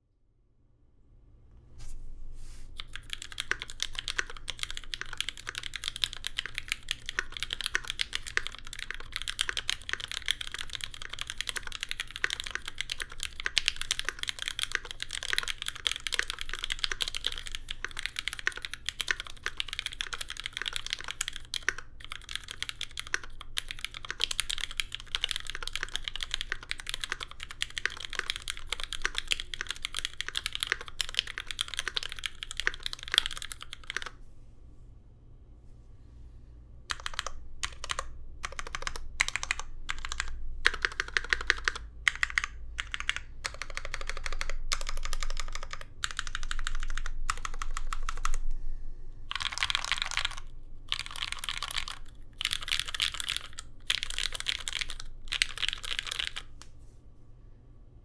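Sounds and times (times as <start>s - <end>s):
fast mechanical keyboard typing: 2.8s - 34.2s, 36.9s - 48.4s, 49.3s - 56.6s.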